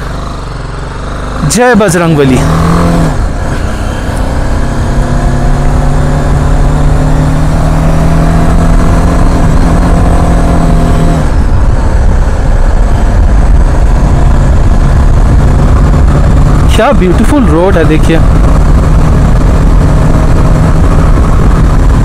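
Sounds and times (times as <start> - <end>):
motorcycle engine: 0.0 - 22.0
wind rumble on microphone: 4.4 - 22.0.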